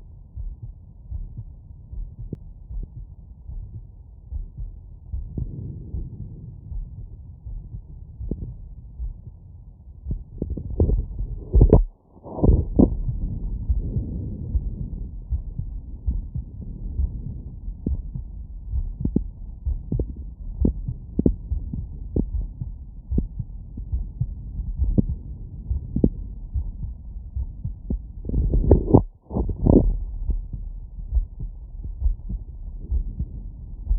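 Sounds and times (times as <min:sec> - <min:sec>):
heartbeat through stethoscope: 0:00.0 - 0:33.9.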